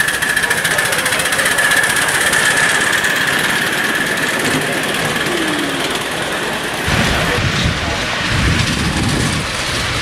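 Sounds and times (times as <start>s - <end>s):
miniature railway locomotive running: 0.0s - 10.0s.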